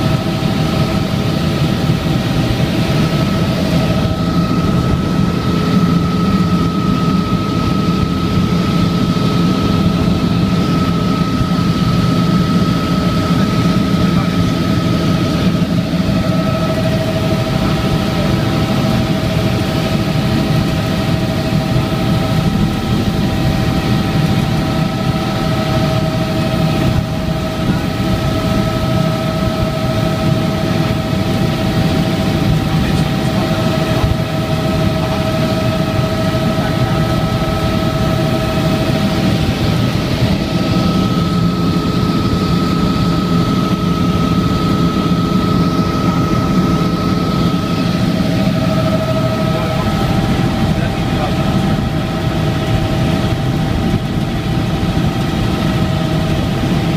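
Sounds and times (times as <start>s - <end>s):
constant high whine: 0.0s - 56.9s
helicopter engine and rotor drone: 0.0s - 56.9s.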